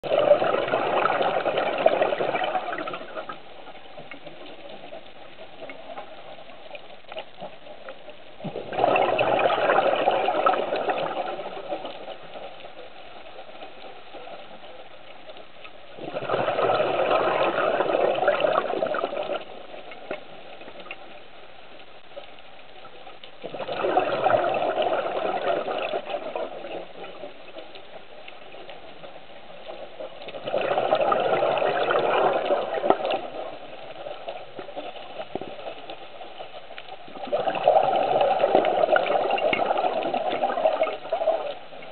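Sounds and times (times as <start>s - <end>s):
underwater air bubbles gurgling: 0.0s - 41.9s.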